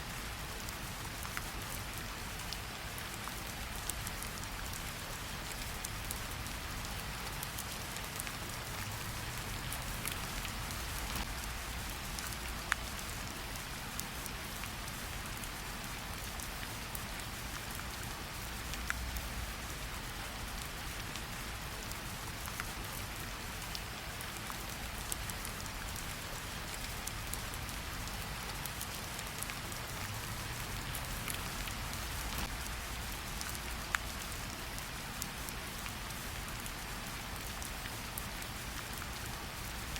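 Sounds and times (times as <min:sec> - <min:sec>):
raindrops hitting close by: 0:00.0 - 0:39.9
steady rain falling: 0:00.0 - 0:39.9.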